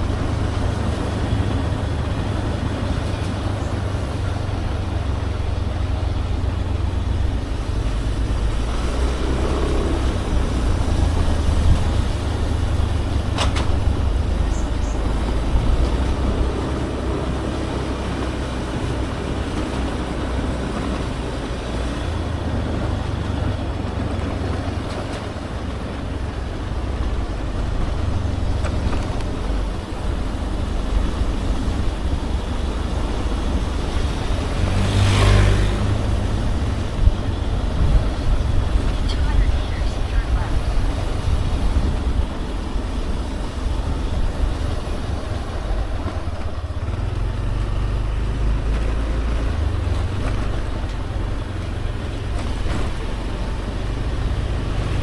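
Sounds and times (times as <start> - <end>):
motorbike engine: 0.0 - 55.0
road noise: 0.0 - 55.0
wind rumble on microphone: 0.0 - 55.0.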